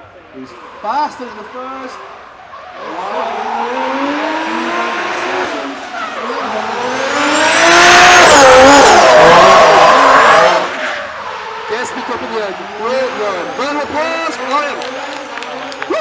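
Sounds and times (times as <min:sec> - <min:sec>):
tyres squealing: 0:00.4 - 0:16.0
car engine revving hard: 0:00.6 - 0:15.9.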